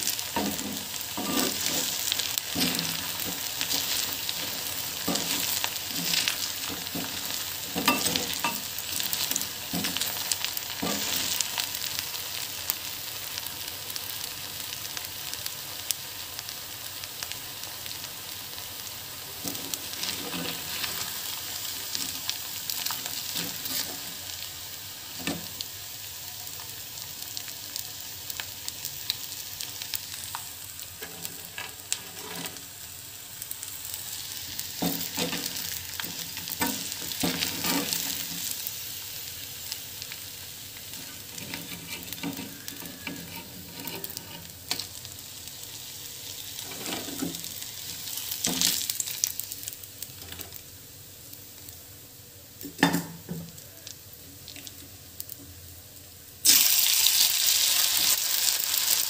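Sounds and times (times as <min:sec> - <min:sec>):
oil sizzling in a pan: 0:00.0 - 0:59.0.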